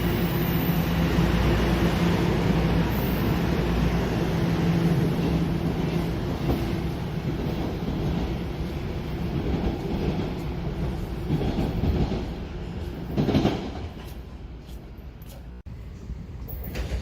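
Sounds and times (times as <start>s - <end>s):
subway train wheels rumbling: 0.0s - 17.0s.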